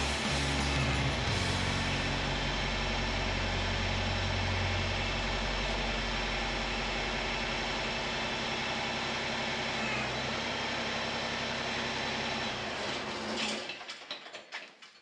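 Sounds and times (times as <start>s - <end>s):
tractor diesel engine running: 0.0s - 13.5s.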